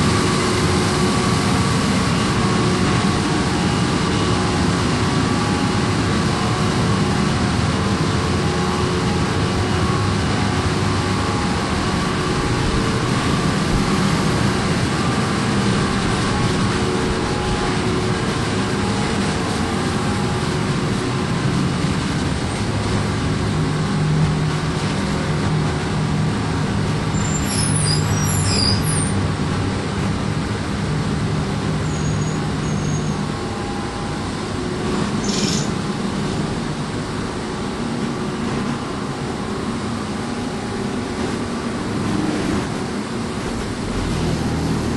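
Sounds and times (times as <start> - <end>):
ferry machinery droning: 0.0 - 44.9.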